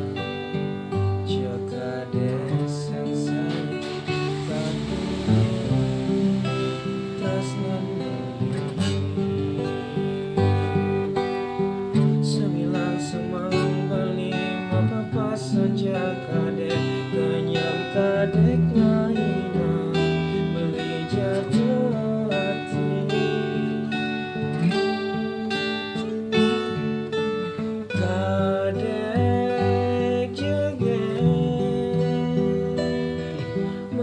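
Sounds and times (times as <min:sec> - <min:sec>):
strummed acoustic guitar: 0:00.0 - 0:34.0.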